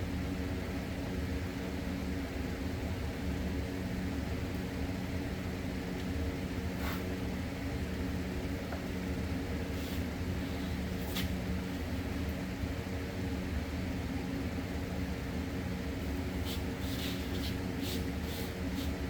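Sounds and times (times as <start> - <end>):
machine humming with low rumble: 0.0 - 19.0.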